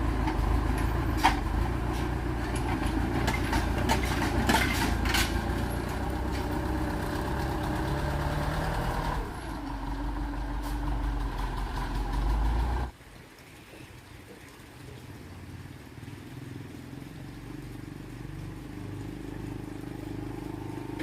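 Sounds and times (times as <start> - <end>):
engine rumbling and clattering: 0.0 - 13.0, 15.5 - 21.0.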